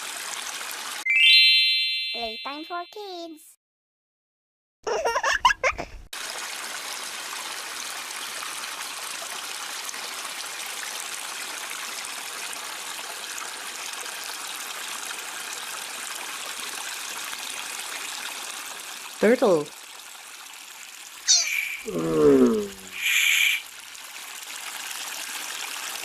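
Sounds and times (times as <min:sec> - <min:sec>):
running water: 0:00.0 - 0:01.4, 0:06.2 - 0:26.0.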